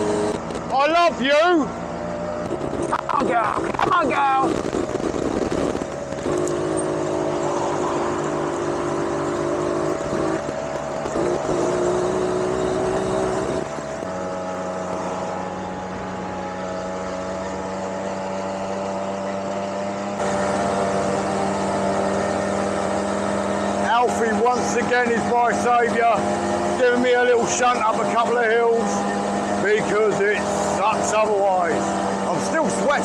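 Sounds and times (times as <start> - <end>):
road and wind noise: 0.0 - 33.0
two-stroke moped engine running: 0.0 - 33.0.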